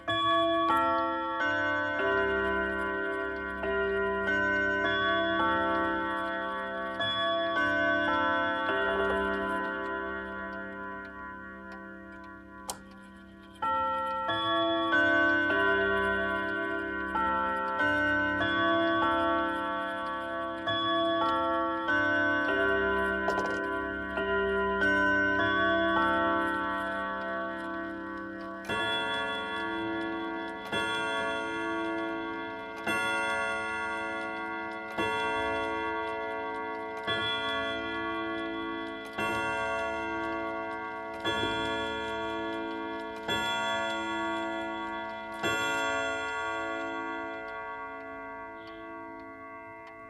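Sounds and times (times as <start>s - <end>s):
chiming clock melody: 0.0s - 50.0s
clock ticking: 0.0s - 50.0s.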